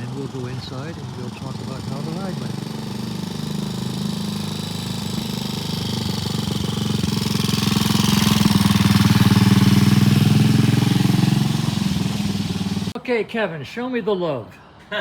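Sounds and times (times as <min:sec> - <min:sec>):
motorcycle engine approaching: 0:00.0 - 0:13.0.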